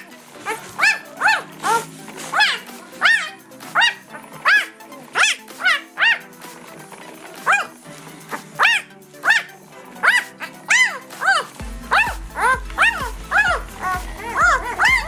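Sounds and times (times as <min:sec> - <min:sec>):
puppy squealing: 0:00.5 - 0:06.3, 0:08.6 - 0:15.0.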